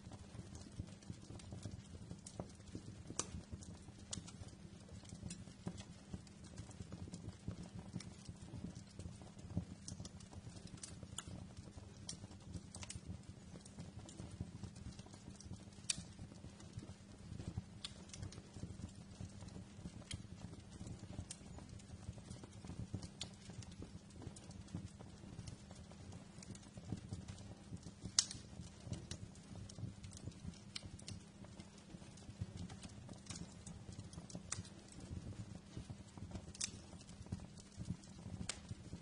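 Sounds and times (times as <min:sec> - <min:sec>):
fire crackling and popping: 0:00.0 - 0:39.0
low rumble of flames: 0:00.0 - 0:39.0.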